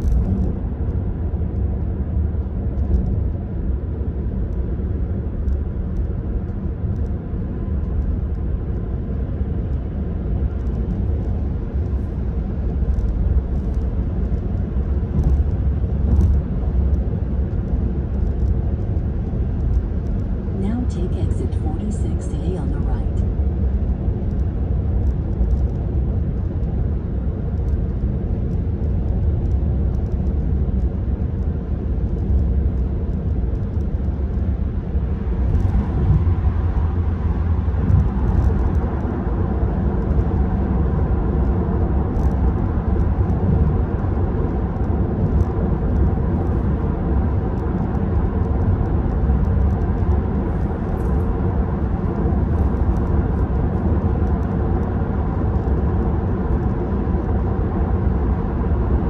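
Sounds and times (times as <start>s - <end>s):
tyre and road noise: 0.0s - 20.9s, 22.4s - 59.0s
wind in car cabin: 0.0s - 59.0s.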